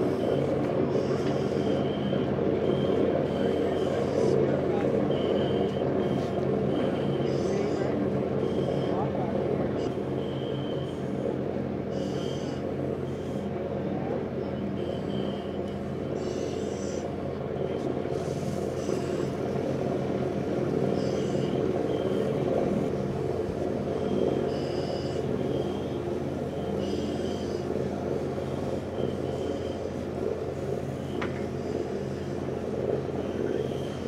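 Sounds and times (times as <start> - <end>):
large engine droning: 0.0 - 34.0.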